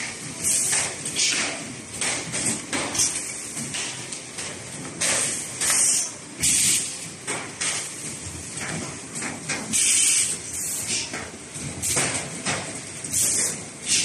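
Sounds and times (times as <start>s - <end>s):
packaging machine humming: 0.0s - 14.0s.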